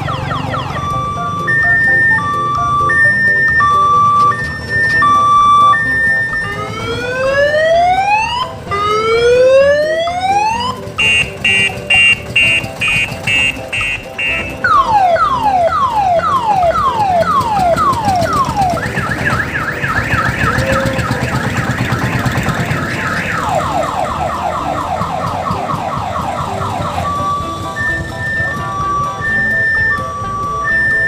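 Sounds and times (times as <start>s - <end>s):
electronic siren wailing and yelping: 0.0s - 31.0s
low engine rumble: 0.0s - 31.0s.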